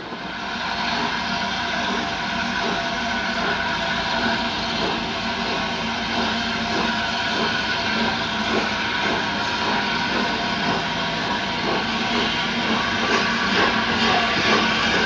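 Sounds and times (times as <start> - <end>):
faint locomotive beats: 0.0 - 15.0
steam locomotive hissing: 0.0 - 15.0.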